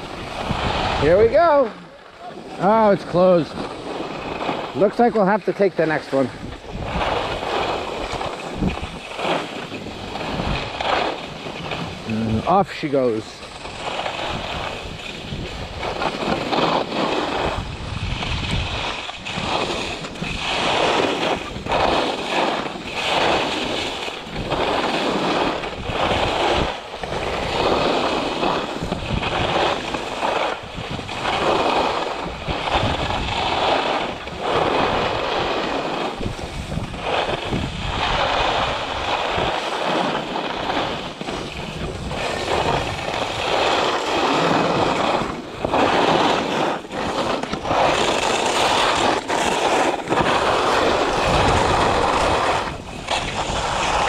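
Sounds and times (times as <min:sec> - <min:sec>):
skis carving on snow: 0:00.0 - 0:54.0
wind buffeting microphone: 0:00.0 - 0:54.0.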